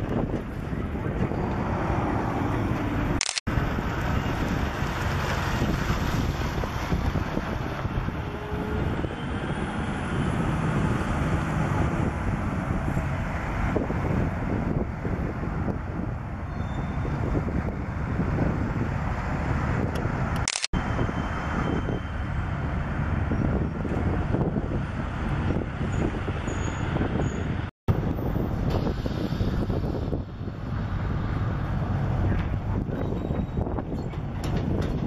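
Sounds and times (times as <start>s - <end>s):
diesel locomotive engine rumbling: 0.0s - 35.0s
wind on microphone: 0.0s - 35.0s.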